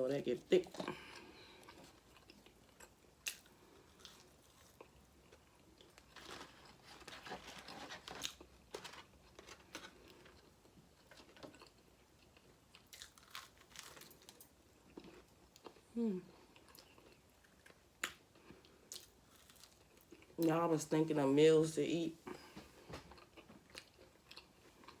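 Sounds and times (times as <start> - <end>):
person chewing and crunching food: 0.4 - 20.4, 22.3 - 25.0.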